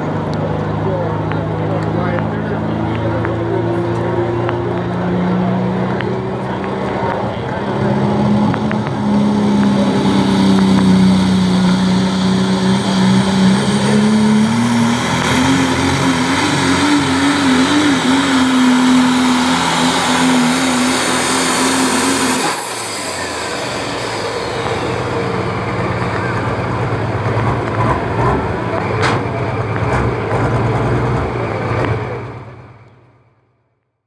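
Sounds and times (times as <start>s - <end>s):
diesel truck engine running flat out: 0.0s - 33.6s.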